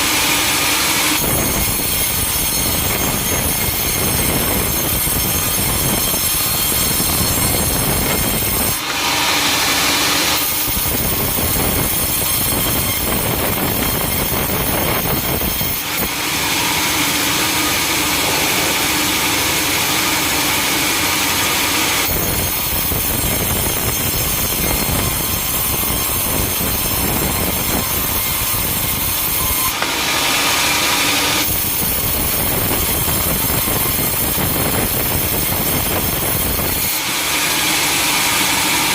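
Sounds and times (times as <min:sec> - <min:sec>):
steady hum: 0:00.0 - 0:31.4
saw cutting timber: 0:00.0 - 0:38.9.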